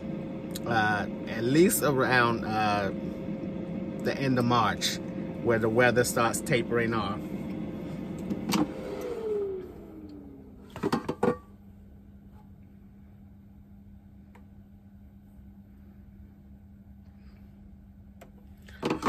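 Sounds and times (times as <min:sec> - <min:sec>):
air fryer humming: 0:00.0 - 0:19.0.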